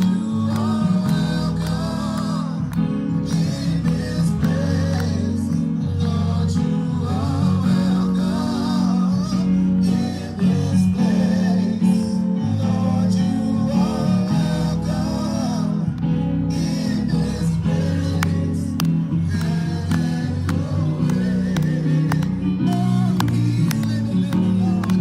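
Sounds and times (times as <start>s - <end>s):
gospel singing: 0.0s - 25.0s
guitar: 0.0s - 25.0s.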